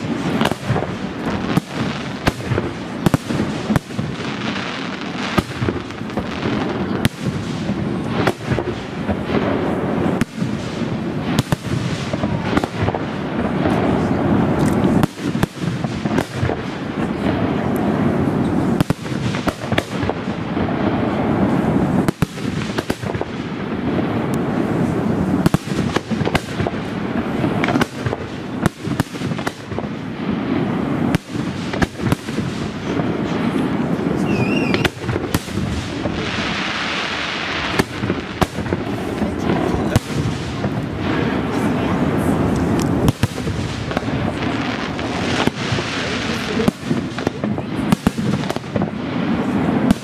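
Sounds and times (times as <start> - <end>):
firework crackling: 0.0 - 50.0.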